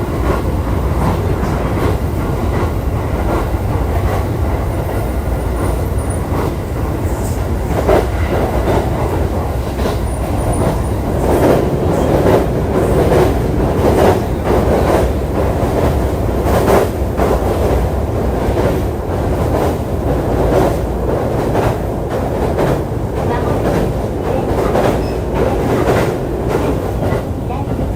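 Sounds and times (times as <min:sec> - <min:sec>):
train wheels rumbling on rail: 0:00.0 - 0:27.9
clack over rail joints: 0:00.1 - 0:27.9.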